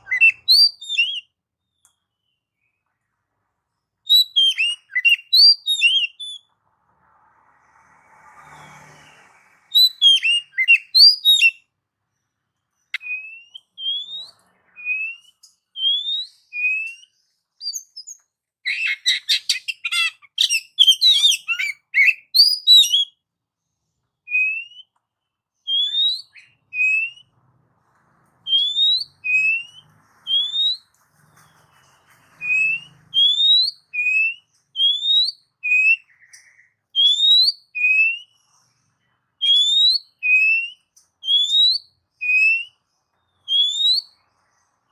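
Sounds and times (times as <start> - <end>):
bird singing whistled notes: 0.0 - 2.8, 4.0 - 6.5, 8.5 - 11.7, 12.7 - 23.2, 24.2 - 25.0, 25.6 - 27.3, 28.5 - 44.9.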